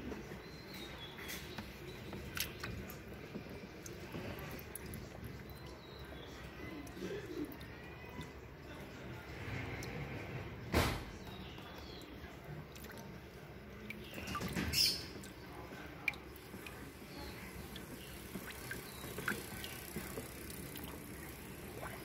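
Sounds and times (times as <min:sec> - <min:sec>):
water sloshing: 0:00.6 - 0:10.6, 0:11.2 - 0:22.0
water dripping and splashing: 0:00.7 - 0:10.2, 0:11.1 - 0:22.0.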